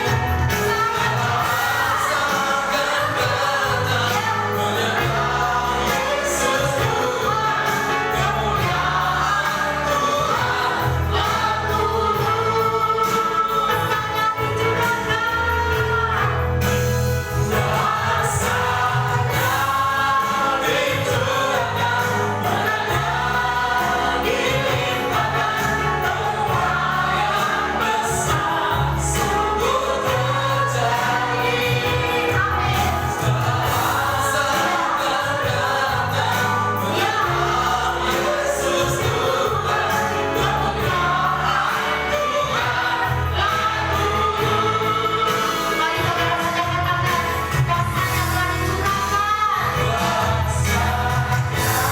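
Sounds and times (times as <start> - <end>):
band playing: 0.0 - 51.9
group of voices singing: 0.0 - 51.9.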